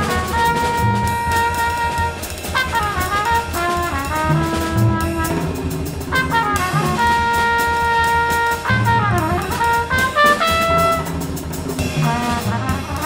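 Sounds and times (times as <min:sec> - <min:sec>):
brass background music: 0:00.0 - 0:13.0.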